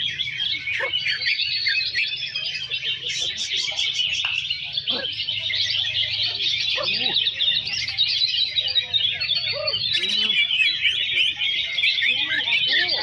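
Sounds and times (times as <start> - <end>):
songbirds twittering: 0.0 - 13.0.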